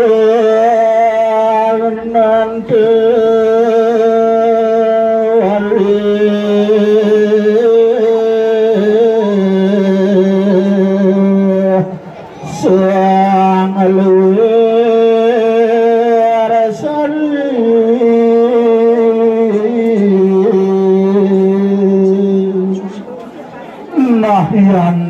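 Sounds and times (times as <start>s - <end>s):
person singing a slow chant: 0.0s - 23.0s.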